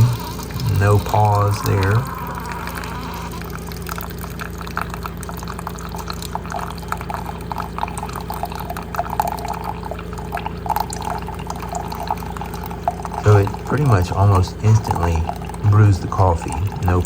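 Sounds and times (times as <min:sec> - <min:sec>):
coffee maker humming: 0:00.0 - 0:17.0
coffee streaming into mug: 0:00.0 - 0:17.0.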